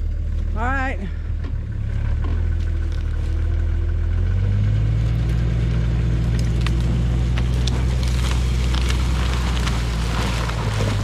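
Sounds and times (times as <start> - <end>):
vehicle engine under load: 0.0 - 11.0.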